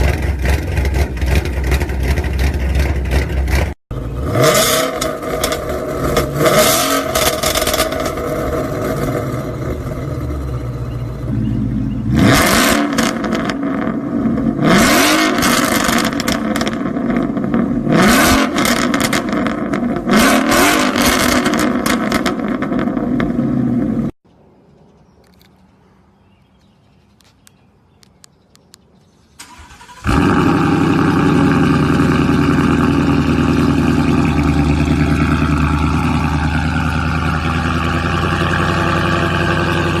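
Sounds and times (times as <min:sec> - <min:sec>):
car exhaust revving: 0:00.0 - 0:24.1, 0:29.6 - 0:40.0.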